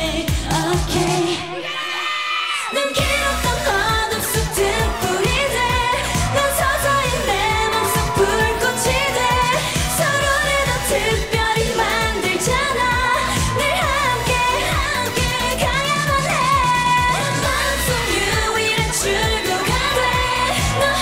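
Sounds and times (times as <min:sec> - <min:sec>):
pop song singing over beat: 0:00.0 - 0:21.0.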